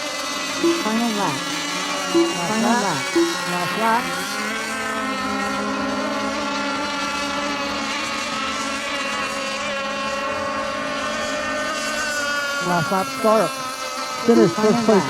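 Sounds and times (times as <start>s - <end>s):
model boat engines whining: 0.0s - 15.0s.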